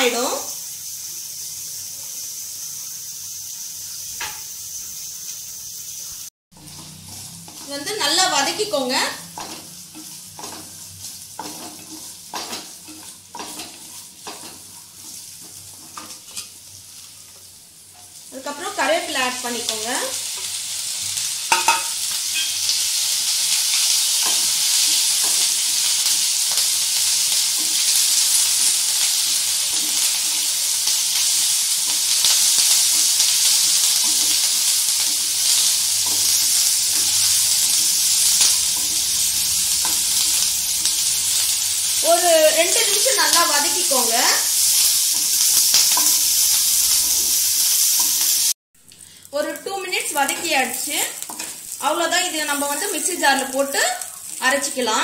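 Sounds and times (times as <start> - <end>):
food frying in oil: 0.0 - 55.0
loud steady sizzle: 0.0 - 55.0.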